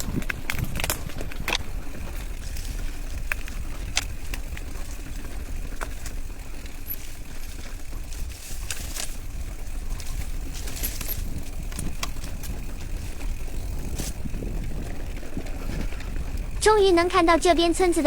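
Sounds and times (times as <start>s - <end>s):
bike clicks and rattles: 0.0s - 18.0s
tyre and wind rumble: 0.0s - 18.0s.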